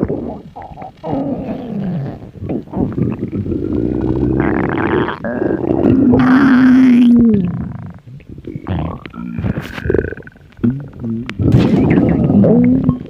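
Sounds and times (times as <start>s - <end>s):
stomach growling and gurgling: 0.0s - 13.0s.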